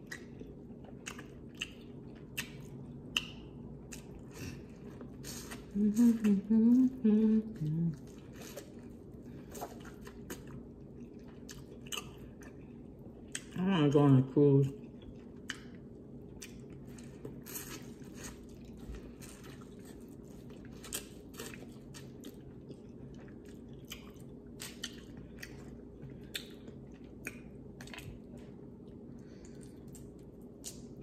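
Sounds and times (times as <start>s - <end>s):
chewing and biting corn: 0.0s - 5.7s, 7.9s - 13.5s, 14.8s - 28.5s
faint steady hum: 0.0s - 31.0s.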